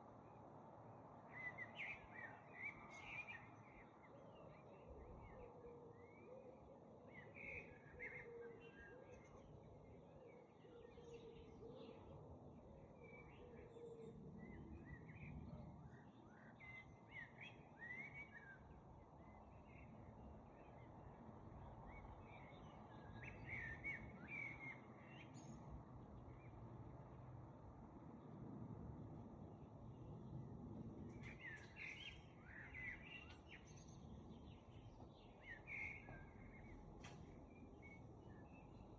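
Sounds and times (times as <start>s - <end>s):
songbirds chirping: 0.1s - 28.5s, 29.1s - 38.9s.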